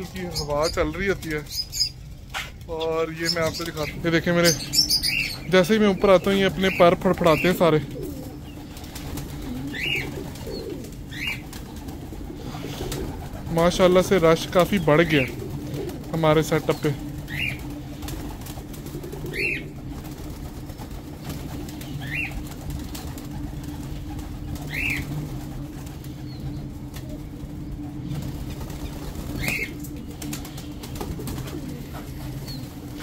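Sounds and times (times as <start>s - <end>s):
steady low hum: 0.0s - 33.0s
wings flapping: 0.0s - 33.0s.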